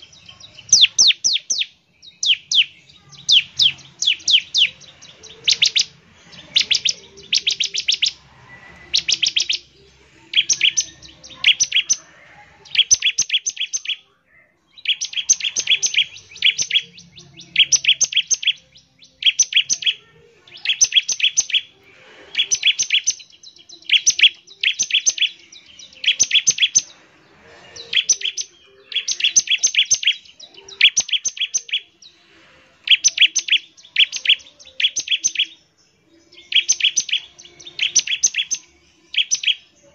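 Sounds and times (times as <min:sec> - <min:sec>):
bird singing sharp high notes: 0:00.0 - 0:12.0, 0:14.7 - 0:32.2, 0:32.8 - 0:39.8.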